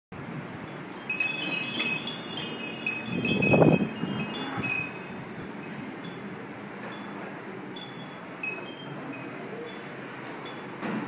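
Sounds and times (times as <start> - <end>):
glass wind chimes tinkling: 0.6 - 10.8.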